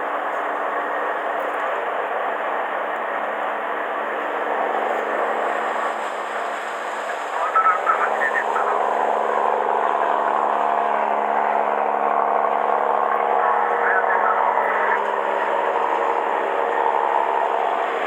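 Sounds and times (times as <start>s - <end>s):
boat engines running: 0.0s - 18.0s
water rushing: 0.0s - 18.0s
wind: 0.0s - 18.0s.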